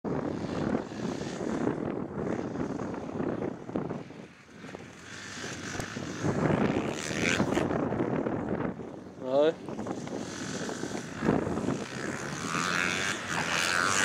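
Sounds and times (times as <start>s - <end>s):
motocross bike engine: 0.0s - 14.0s.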